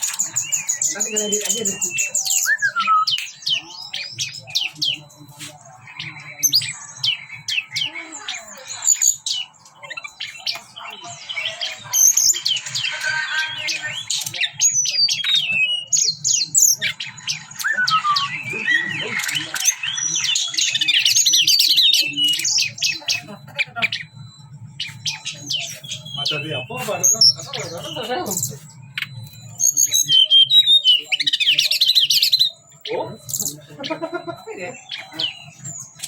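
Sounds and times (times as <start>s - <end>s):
songbird singing: 0.0s - 36.0s.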